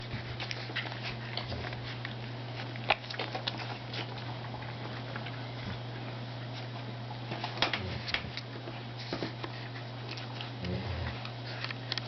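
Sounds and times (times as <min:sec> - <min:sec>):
puppies slurping: 0:00.0 - 0:12.0
steady low hum: 0:00.0 - 0:12.0.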